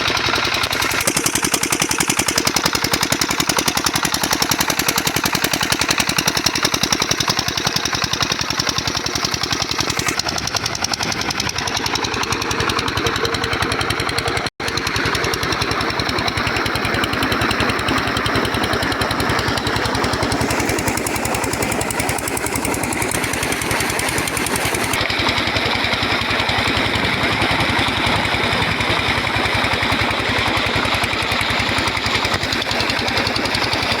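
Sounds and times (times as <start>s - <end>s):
diesel engine knocking: 0.0s - 34.0s.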